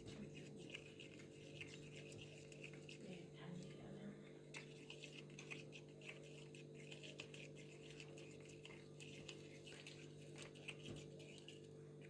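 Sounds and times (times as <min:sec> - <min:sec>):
glue being stirred squishing: 0:00.0 - 0:03.8, 0:04.4 - 0:12.0.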